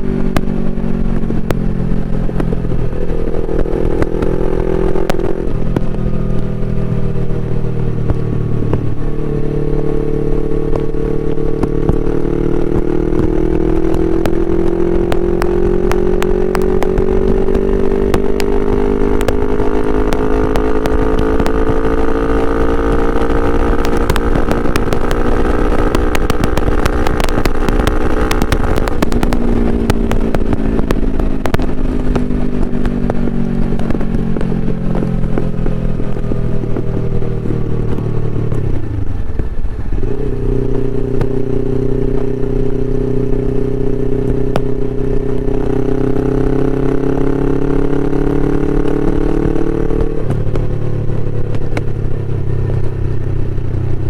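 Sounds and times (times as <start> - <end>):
exhaust crackles: 0.0 - 54.0
motorcycle engine revving: 0.0 - 54.0.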